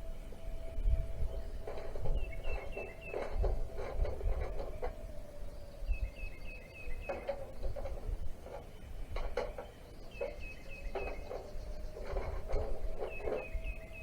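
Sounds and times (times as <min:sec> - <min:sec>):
bird chirping: 0:00.3 - 0:14.0.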